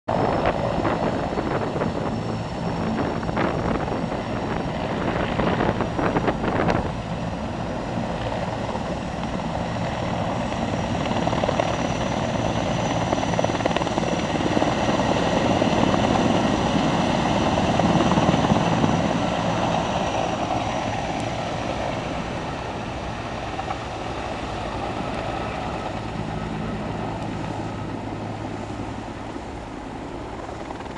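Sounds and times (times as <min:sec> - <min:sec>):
helicopter rotor chop: 0:00.1 - 0:30.9
high turbine whine: 0:00.1 - 0:30.9.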